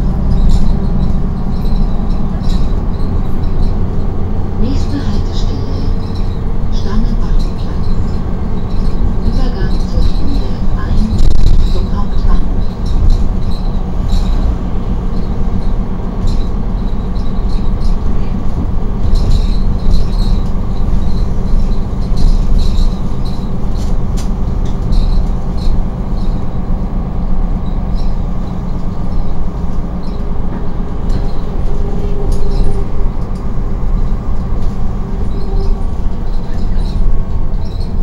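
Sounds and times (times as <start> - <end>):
bus body clicks and rattles: 0.0 - 38.0
bus engine and road rumble: 0.0 - 38.0.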